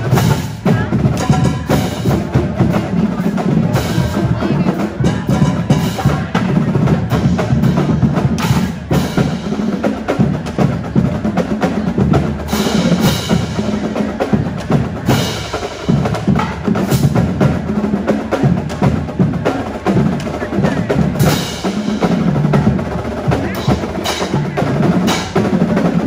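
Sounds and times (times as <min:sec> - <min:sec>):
drumline playing cadence: 0:00.0 - 0:26.0.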